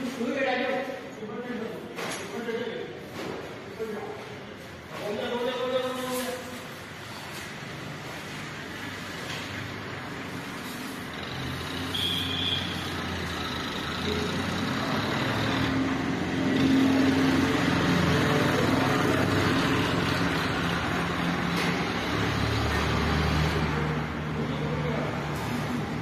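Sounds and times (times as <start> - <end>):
vehicle engine and traffic noise: 0.0 - 26.0.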